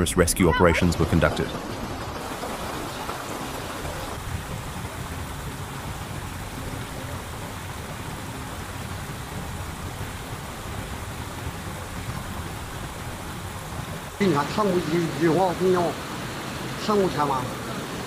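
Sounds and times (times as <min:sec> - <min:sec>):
flood water rushing down a street: 0:00.0 - 0:18.0.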